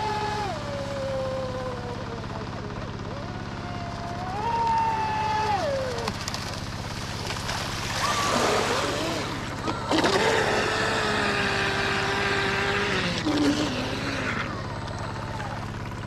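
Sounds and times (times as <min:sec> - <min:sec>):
boat wake hissing: 0:00.0 - 0:16.0
steady low hum: 0:00.0 - 0:16.0
toy speedboat motor whine: 0:00.0 - 0:16.0.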